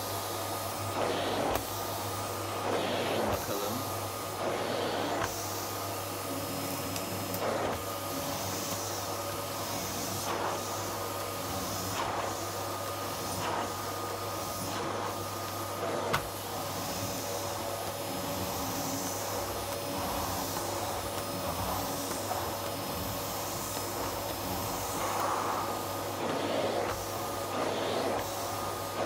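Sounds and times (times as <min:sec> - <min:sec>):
vacuum cleaner motor humming: 0:00.0 - 0:29.0
vacuum nozzle swishing over rug: 0:00.0 - 0:29.0.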